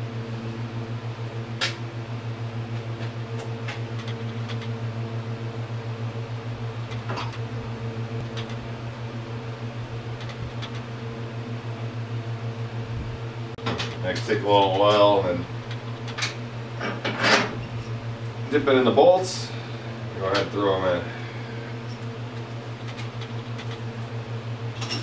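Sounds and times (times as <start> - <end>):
pulsing mechanical hum: 0.0 - 25.0.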